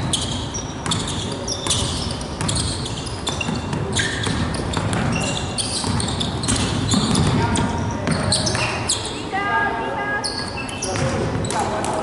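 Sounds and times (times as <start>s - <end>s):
basketball bouncing on court: 0.0s - 8.8s, 10.8s - 12.0s
sneakers squeaking: 0.0s - 9.4s, 10.1s - 12.0s.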